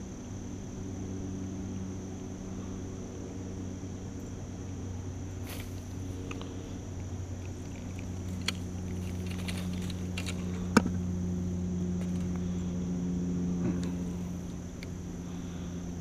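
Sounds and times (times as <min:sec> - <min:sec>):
insect buzz: 0:00.0 - 0:16.0
low hum: 0:00.0 - 0:16.0.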